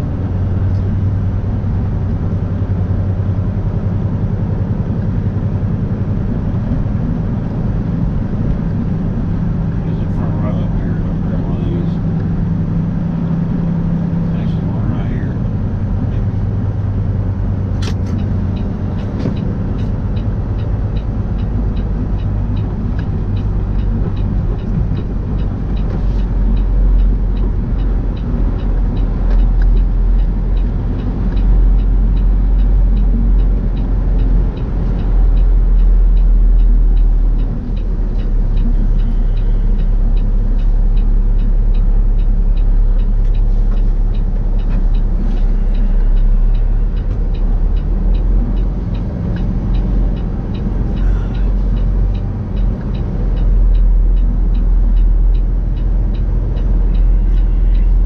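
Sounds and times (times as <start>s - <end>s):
diesel truck engine rumble: 0.0s - 58.0s
faint regular ticking: 3.3s - 58.0s.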